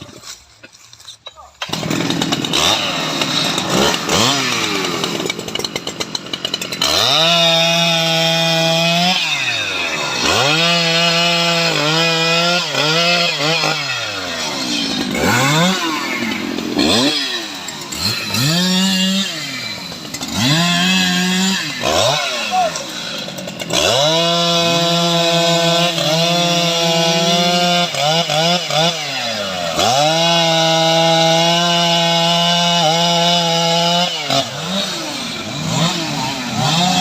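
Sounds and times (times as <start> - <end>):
chainsaw cutting and revving: 1.6 - 37.0.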